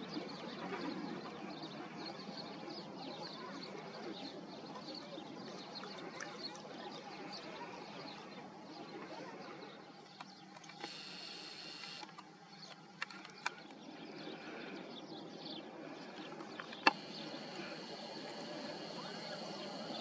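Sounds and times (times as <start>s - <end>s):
faint outdoor background noise: 0.0s - 20.0s.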